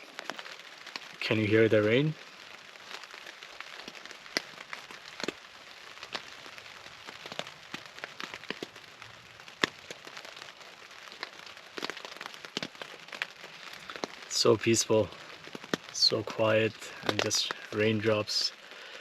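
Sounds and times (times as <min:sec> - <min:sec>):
raindrops tapping: 0:00.0 - 0:19.0
soft rain hiss: 0:00.0 - 0:19.0.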